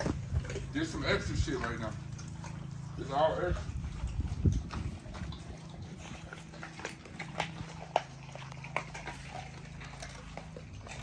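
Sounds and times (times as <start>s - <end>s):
dogs crunching bones: 0.0s - 11.0s
steady low hum: 0.0s - 11.0s.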